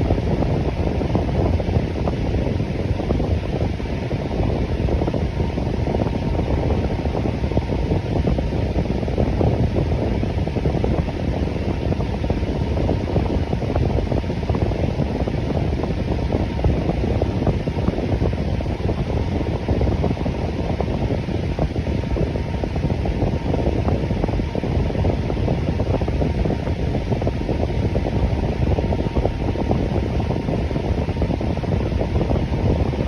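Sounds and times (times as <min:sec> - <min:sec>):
electric fan running: 0:00.0 - 0:33.0.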